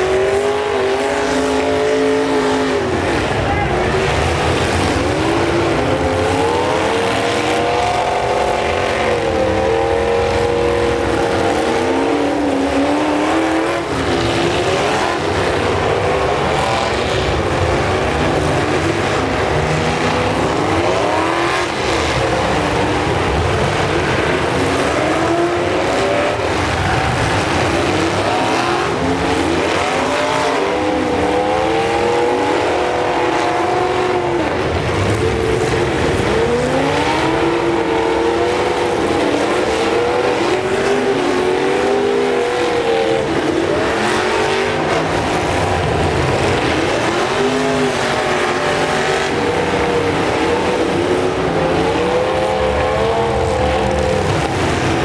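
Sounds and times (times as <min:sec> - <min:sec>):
car engines revving hard: 0:00.0 - 0:55.0
dense engine and exhaust noise: 0:00.0 - 0:55.0.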